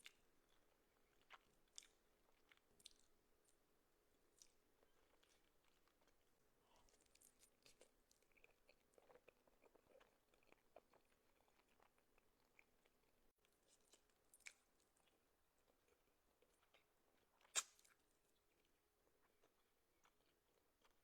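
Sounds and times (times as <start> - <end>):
chewing noodles: 0.0 - 3.1, 4.4 - 21.0.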